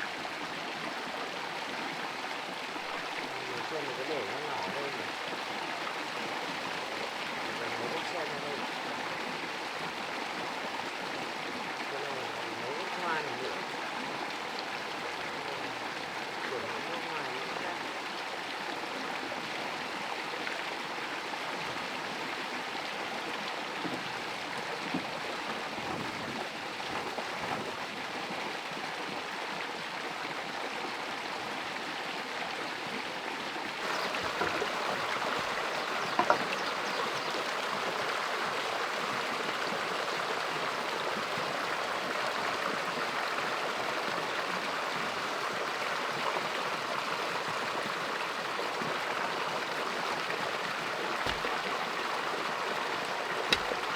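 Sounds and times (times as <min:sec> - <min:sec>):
rushing stream: 0:00.0 - 0:53.9.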